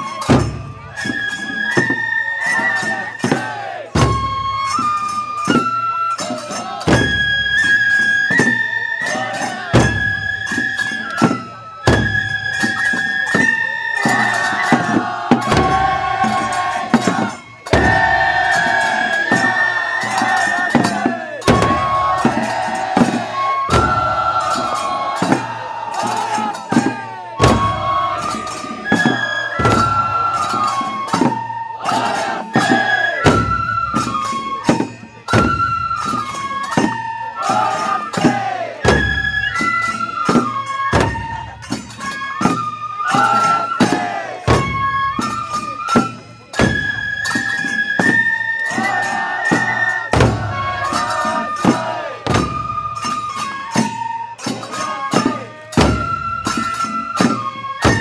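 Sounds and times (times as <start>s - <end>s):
bamboo flute melody: 0.0s - 58.0s
taiko drum beats: 0.0s - 58.0s.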